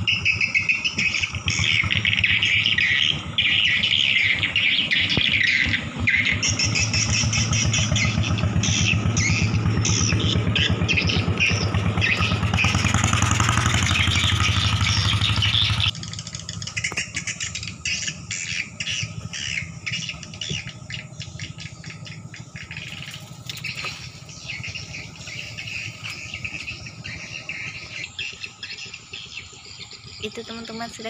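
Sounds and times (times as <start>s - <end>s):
small engine running: 0.0s - 31.0s
night insects or frogs chirping: 0.1s - 31.0s.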